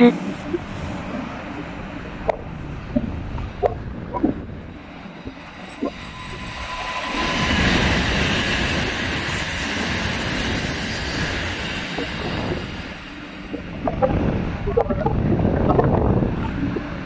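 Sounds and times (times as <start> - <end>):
train passing with rolling wheels: 0.0 - 14.7.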